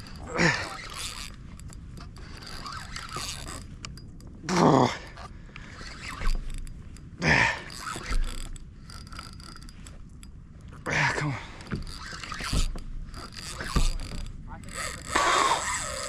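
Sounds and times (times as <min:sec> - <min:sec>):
gear knocking and scraping: 0:00.0 - 0:16.0.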